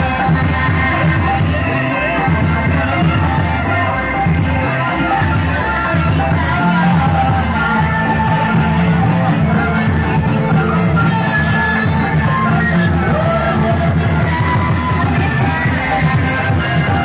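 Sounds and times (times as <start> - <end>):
driving drum beat: 0.0 - 17.0
loud music with singing: 0.0 - 17.0.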